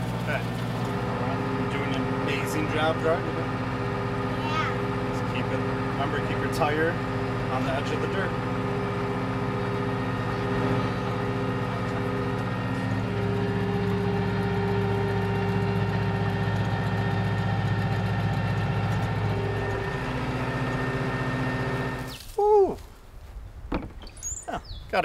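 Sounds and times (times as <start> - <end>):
tractor diesel engine running: 0.0 - 22.2.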